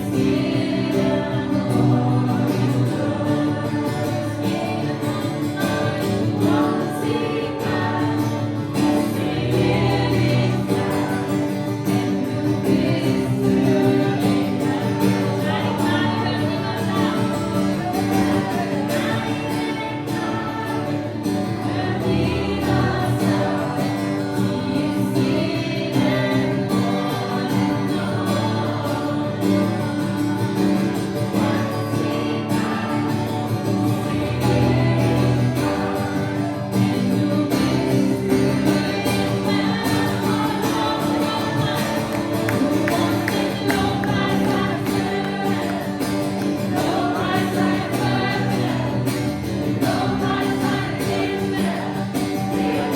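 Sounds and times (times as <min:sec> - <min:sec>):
group singing: 0:00.0 - 0:52.9
guitar: 0:00.0 - 0:52.9.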